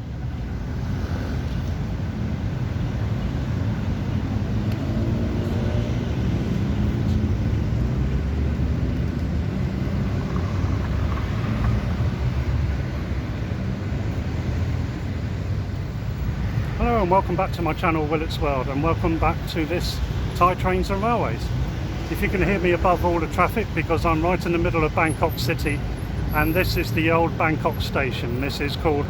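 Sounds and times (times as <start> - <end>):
heavy road traffic rumble: 0.0 - 29.0.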